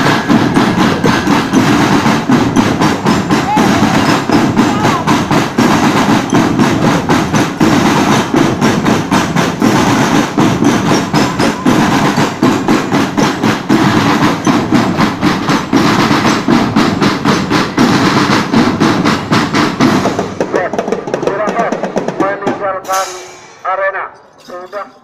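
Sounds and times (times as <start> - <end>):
marching drums beating: 0.0 - 24.9.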